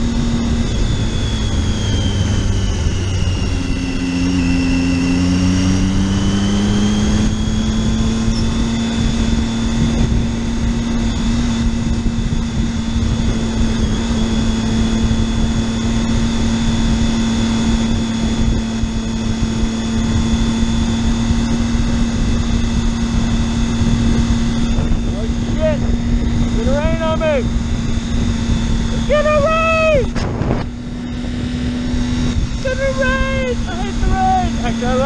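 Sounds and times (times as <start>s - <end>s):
motorcycle engine running: 0.0s - 35.0s
wind rushing over microphone: 0.0s - 35.0s.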